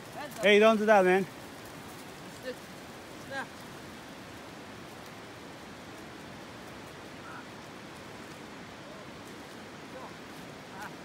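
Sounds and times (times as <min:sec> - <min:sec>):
constant outdoor hiss: 0:00.0 - 0:11.0.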